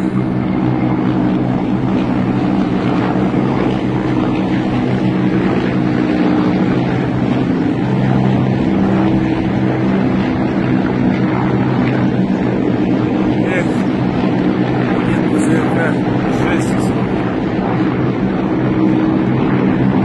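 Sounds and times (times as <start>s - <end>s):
helicopters flying overhead: 0.0s - 20.0s.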